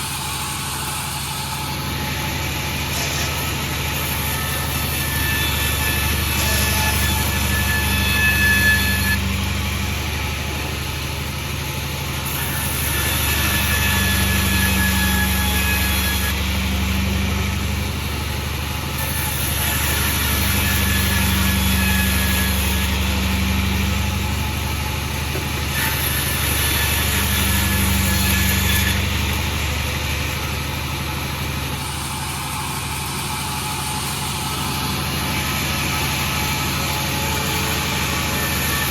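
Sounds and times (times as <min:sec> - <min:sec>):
sawmill engine hum: 0:00.0 - 0:38.9.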